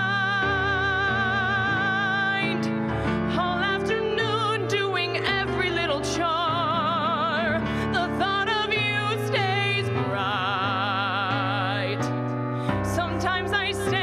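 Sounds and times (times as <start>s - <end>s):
woman singing with vibrato: 0.0s - 12.1s, 12.7s - 14.0s.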